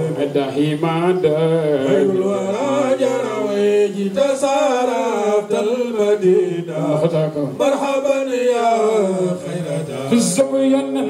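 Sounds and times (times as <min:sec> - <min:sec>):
men chanting through microphones: 0:00.9 - 0:10.5.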